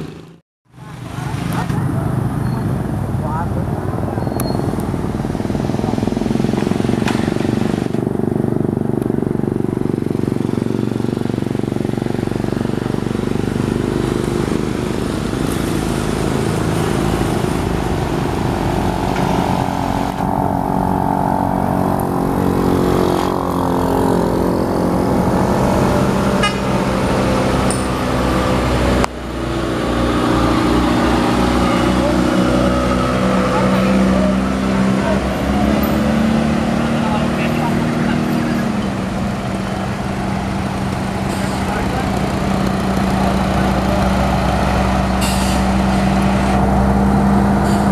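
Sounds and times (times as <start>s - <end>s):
steady engine hum: 0.0s - 47.9s
truck engine passing: 0.0s - 47.9s.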